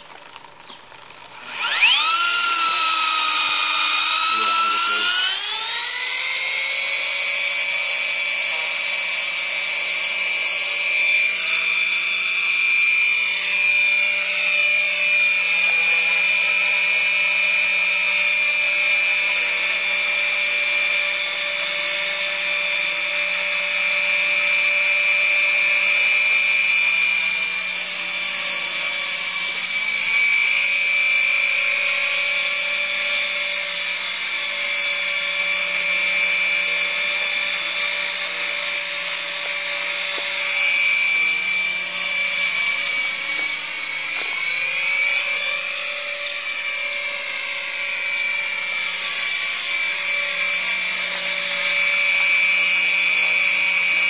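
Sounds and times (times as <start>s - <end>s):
electric helicopter rotors whining: 0.0s - 54.0s.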